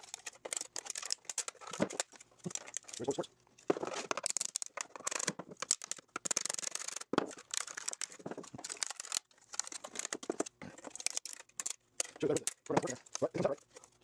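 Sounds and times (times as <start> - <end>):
pliers snapping and scraping plastic: 0.0 - 14.0.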